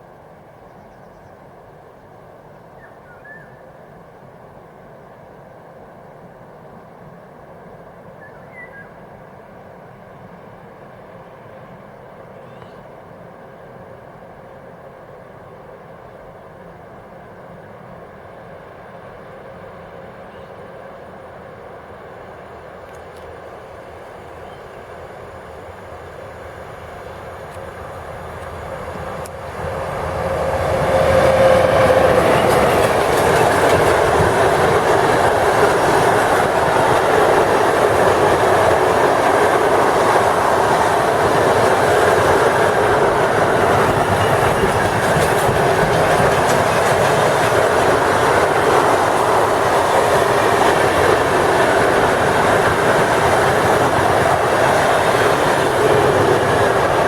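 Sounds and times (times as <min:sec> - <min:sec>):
electric locomotive passing: 0:03.6 - 0:57.0.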